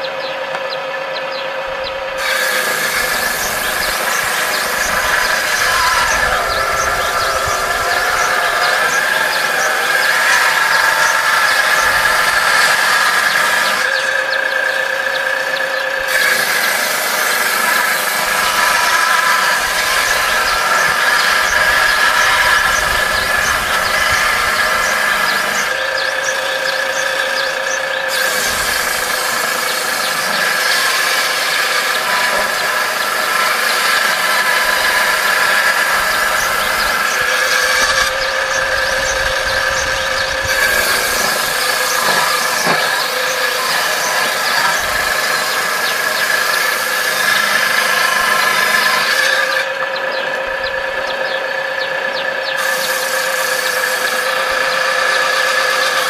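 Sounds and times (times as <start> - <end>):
table saw high whine: 0.0 - 56.0
saw hissing through wood: 2.1 - 50.0, 52.4 - 56.0.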